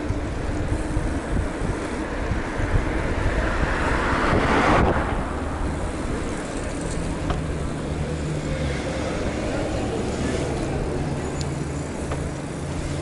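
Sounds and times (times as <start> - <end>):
wind rushing over microphone: 0.0 - 11.1
low road rumble: 0.0 - 13.0.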